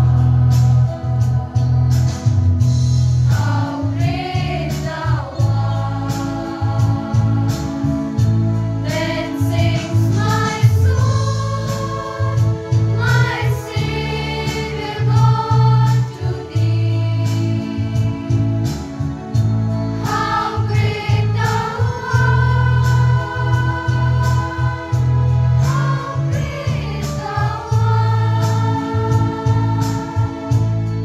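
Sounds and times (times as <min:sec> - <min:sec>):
girls' choir singing a hymn: 0:00.0 - 0:02.3, 0:03.2 - 0:31.0.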